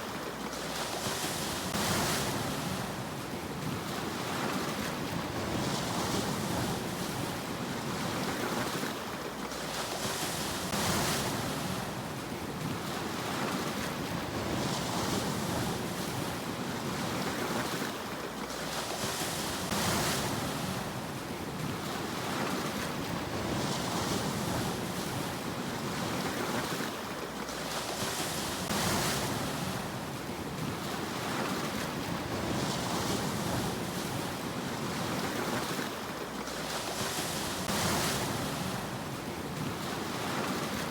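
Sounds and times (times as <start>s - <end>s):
sea waves washing in: 0.0s - 40.9s.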